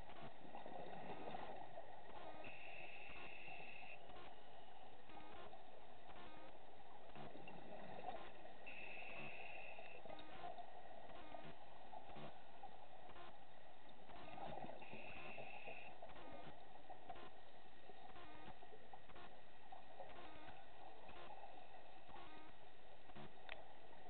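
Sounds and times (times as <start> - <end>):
bubbling with small clicks: 0.0 - 24.0
thin steady hiss-tone: 0.0 - 24.0.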